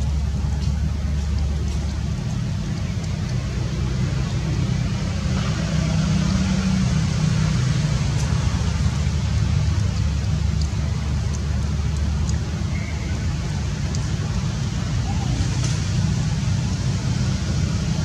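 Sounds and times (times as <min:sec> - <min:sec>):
low rumbling background noise: 0:00.0 - 0:18.0.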